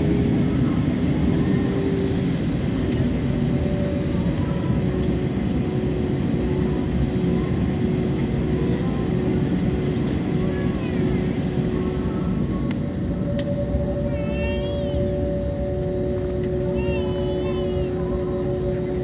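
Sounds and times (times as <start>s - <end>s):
jet engines at high thrust: 0.0s - 19.0s.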